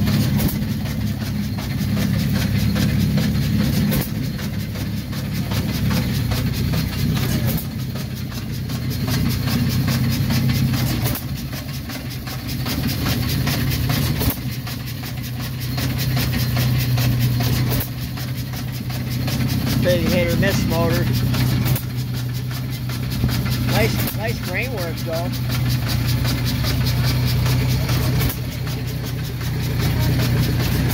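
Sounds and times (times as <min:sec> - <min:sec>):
stationary engine chugging: 0:00.0 - 0:30.9.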